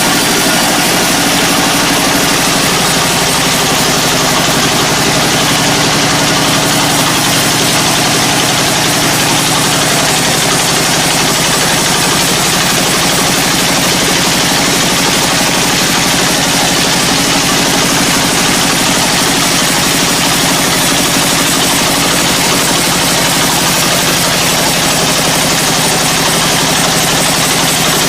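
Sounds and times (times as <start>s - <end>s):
sawmill engine humming: 0.0s - 28.0s.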